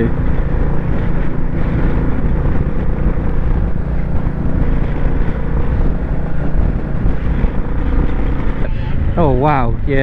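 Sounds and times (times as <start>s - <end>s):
motorcycle engine running: 0.0s - 10.0s
wind on microphone: 0.0s - 10.0s.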